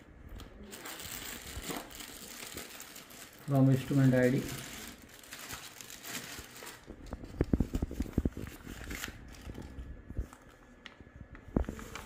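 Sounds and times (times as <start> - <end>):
plastic bag crinkling: 0.6 - 10.6.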